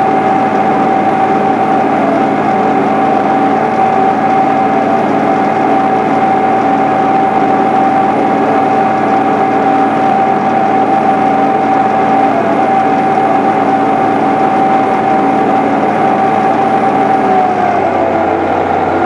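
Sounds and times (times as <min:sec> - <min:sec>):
high-pitched whine: 0:00.0 - 0:19.0
tractor diesel engine running: 0:00.0 - 0:19.0.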